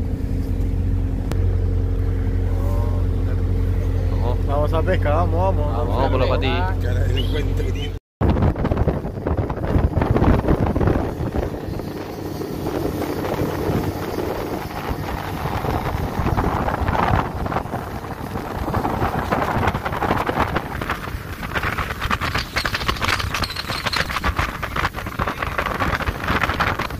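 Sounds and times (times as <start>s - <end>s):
motorboat engine running: 0.0s - 26.9s
wind buffeting microphone: 0.0s - 26.9s.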